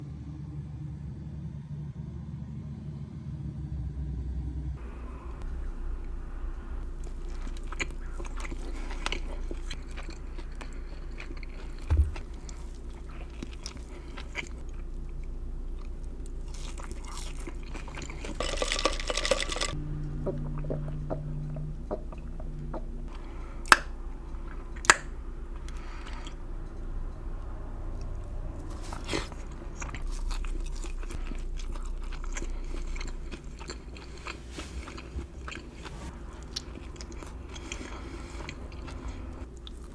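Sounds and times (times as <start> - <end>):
biting and chewing: 4.8 - 39.9.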